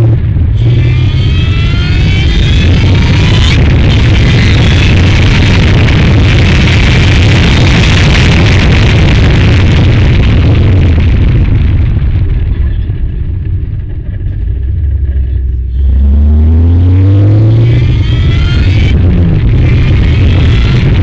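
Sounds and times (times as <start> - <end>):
car engine revving: 0.0 - 21.0
heavy low rumble: 0.0 - 21.0.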